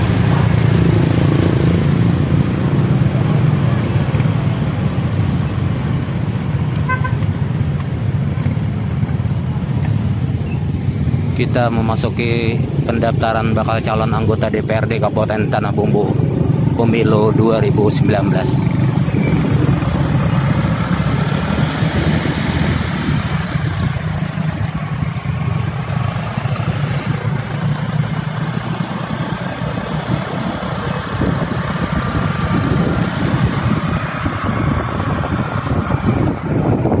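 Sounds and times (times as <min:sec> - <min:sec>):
road and air noise hiss: 0:00.0 - 0:37.0
scooter engines humming: 0:00.0 - 0:37.0.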